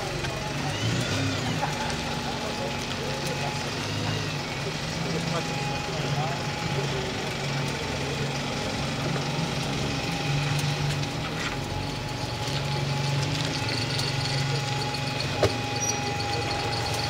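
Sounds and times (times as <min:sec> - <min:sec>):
bus diesel engine: 0:00.0 - 0:17.0.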